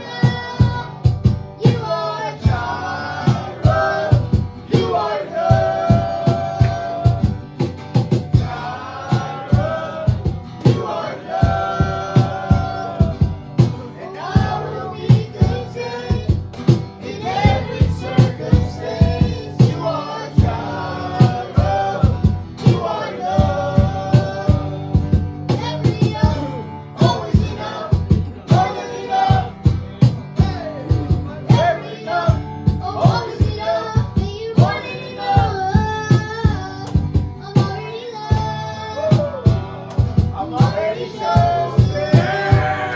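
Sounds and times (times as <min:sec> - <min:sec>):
driving drum beat: 0:00.0 - 0:42.9
live worship band music: 0:00.0 - 0:42.9
singing: 0:00.0 - 0:42.9.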